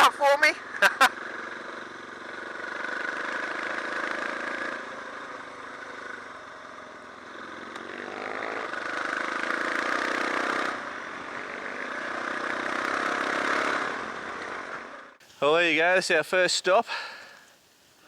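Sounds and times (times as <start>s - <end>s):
motorcycle engine accelerating: 0.0s - 15.2s.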